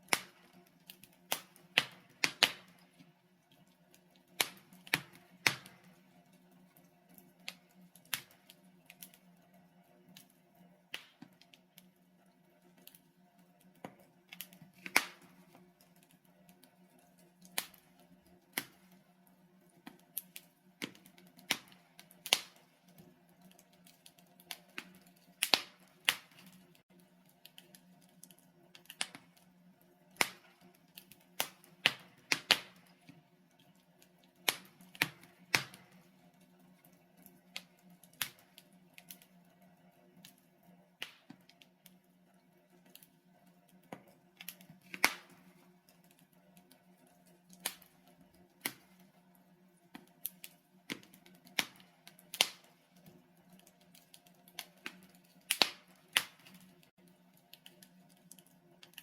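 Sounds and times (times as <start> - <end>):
burning logs crackling: 0.0 - 59.0.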